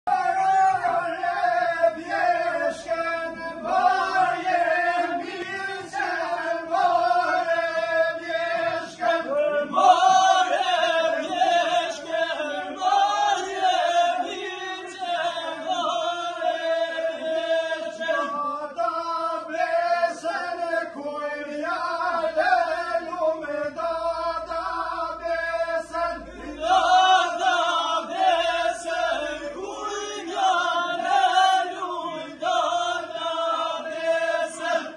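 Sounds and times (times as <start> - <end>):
group singing folk song: 0.1 - 34.9.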